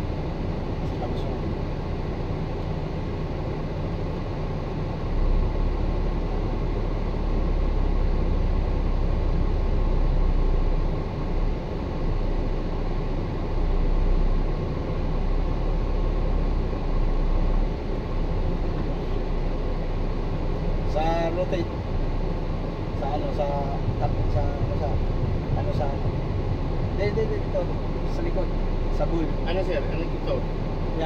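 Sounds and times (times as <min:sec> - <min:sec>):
truck diesel engine rumbling: 0:00.0 - 0:31.0.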